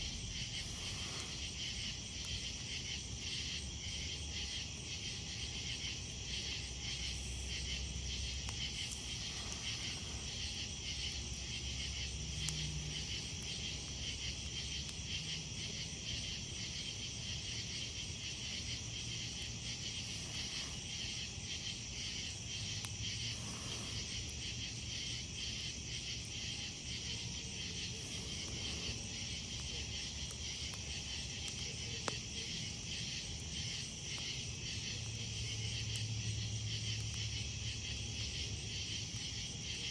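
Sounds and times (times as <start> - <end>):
faint campfire pops: 0.0 - 36.1
crickets chirping: 0.0 - 39.9.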